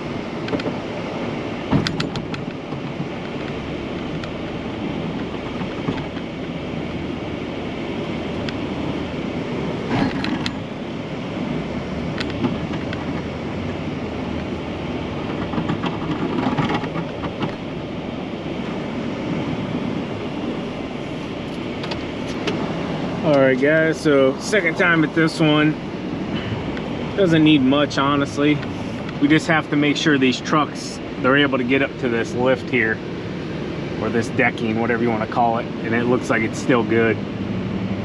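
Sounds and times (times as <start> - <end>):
truck rumbling over snow: 0.0 - 38.0.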